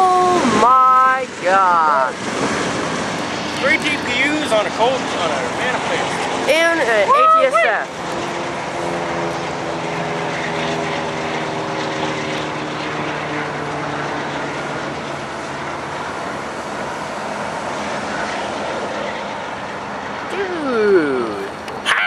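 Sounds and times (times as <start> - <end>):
diesel locomotive engine drone: 0.0 - 22.0.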